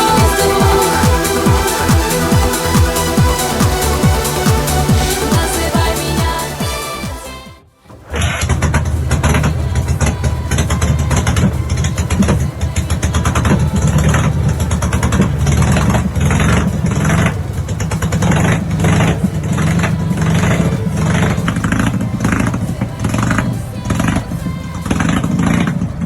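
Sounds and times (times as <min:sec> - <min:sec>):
motorcycle engine running: 0:00.0 - 0:07.3, 0:07.9 - 0:26.0.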